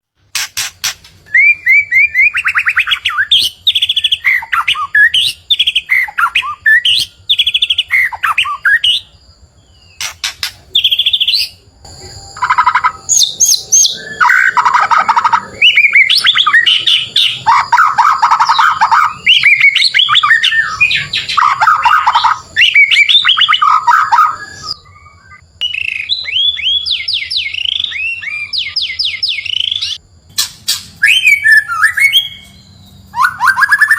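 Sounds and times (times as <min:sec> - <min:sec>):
bird singing trills and whistles: 0:00.4 - 0:33.9.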